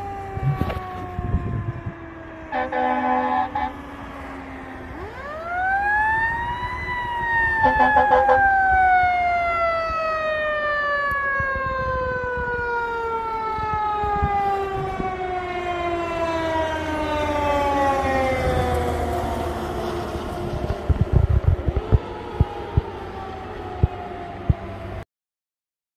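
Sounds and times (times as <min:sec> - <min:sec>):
mechanical siren winding down: 0:00.0 - 0:25.0
truck engine rumbling: 0:00.3 - 0:10.5, 0:13.8 - 0:25.0.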